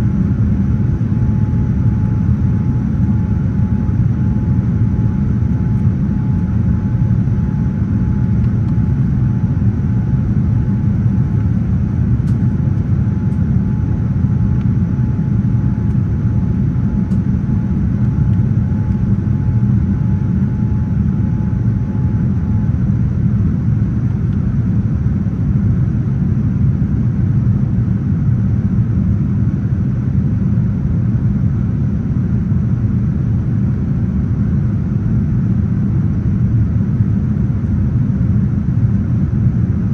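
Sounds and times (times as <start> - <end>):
faint steady whine: 0.0 - 39.9
jet airliner cabin rumble: 0.0 - 39.9.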